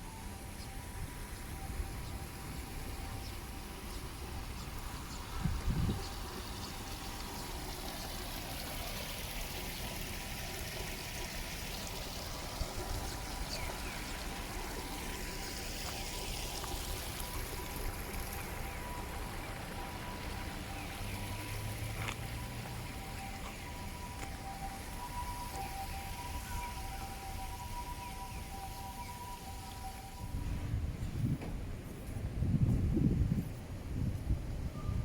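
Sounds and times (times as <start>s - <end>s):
rain on a street: 0.0s - 30.4s.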